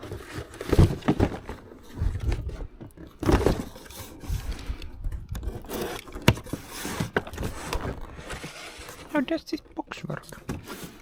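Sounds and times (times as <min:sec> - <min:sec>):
cardboard box scraping and rustling: 0:00.0 - 0:04.7, 0:05.4 - 0:09.4, 0:10.4 - 0:11.0.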